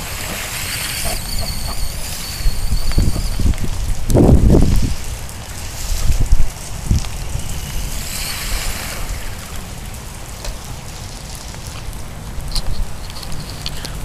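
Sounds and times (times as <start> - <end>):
rushing splashing water: 0.0 - 14.0.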